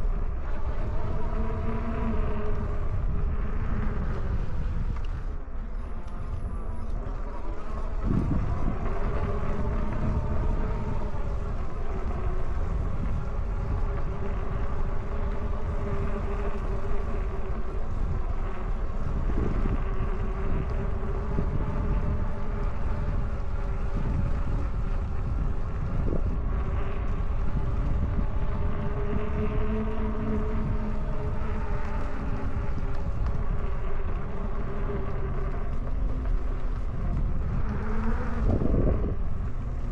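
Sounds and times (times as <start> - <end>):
electric motor whine: 0.0 - 39.9
wind buffeting microphone: 0.0 - 39.9.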